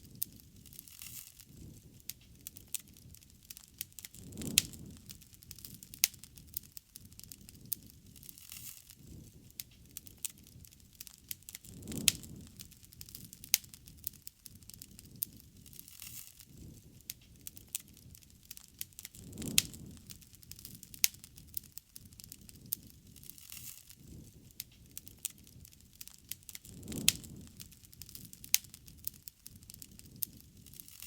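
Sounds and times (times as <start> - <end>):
bonfire crackling: 0.0 - 31.0
burning wood snapping and popping: 0.0 - 31.0
low rush of flame: 0.0 - 31.0.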